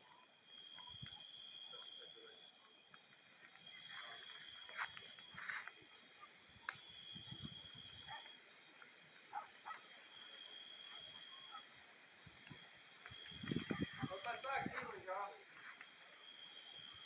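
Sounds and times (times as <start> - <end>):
bonfire crackling: 0.0 - 17.0
insects trilling: 0.0 - 17.0.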